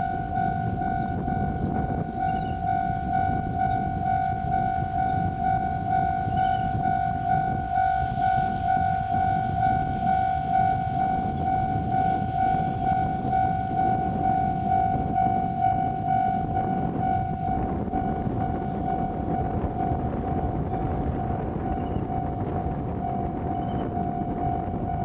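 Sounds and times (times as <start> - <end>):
level-crossing warning bell: 0.0 - 25.0
train rumbling: 0.0 - 25.0.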